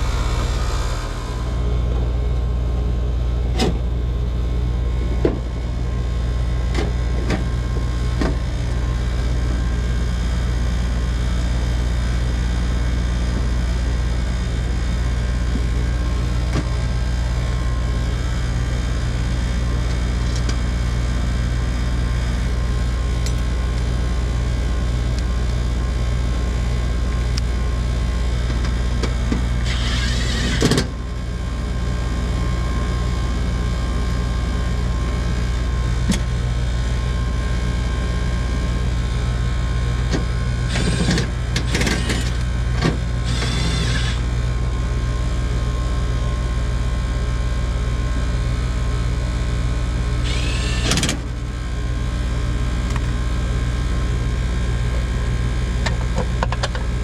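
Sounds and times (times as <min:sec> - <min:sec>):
heat pump humming: 0:00.0 - 0:10.0, 0:10.9 - 0:33.6, 0:34.6 - 0:46.4, 0:49.1 - 0:53.6.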